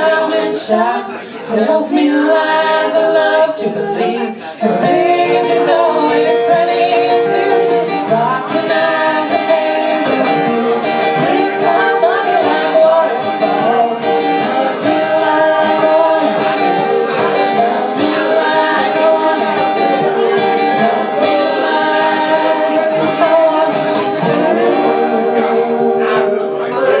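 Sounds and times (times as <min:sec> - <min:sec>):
plucked guitar: 0:00.0 - 0:27.0
voices singing: 0:00.0 - 0:27.0.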